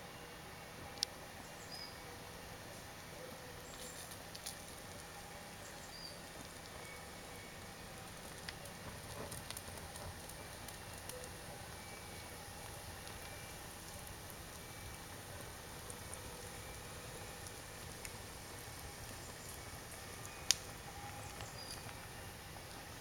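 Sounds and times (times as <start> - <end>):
campfire crackling: 0.3 - 23.0.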